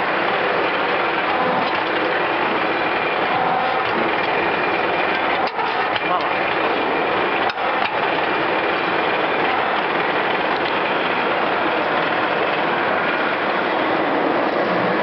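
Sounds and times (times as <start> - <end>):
wire drawing machine running: 0.0 - 15.0.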